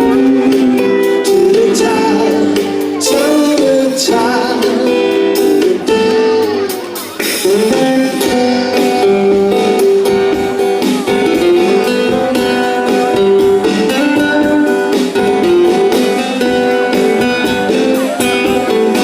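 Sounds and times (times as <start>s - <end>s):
live band playing pop music: 0.0s - 19.0s.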